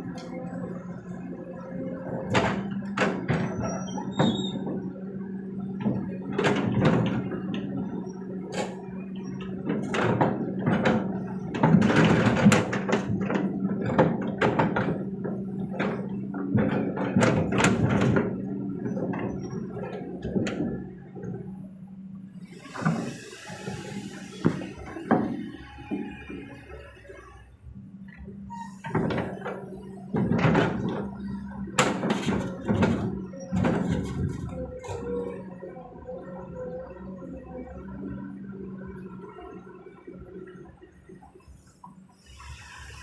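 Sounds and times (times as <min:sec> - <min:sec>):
excavator diesel engine: 0:00.0 - 0:43.0.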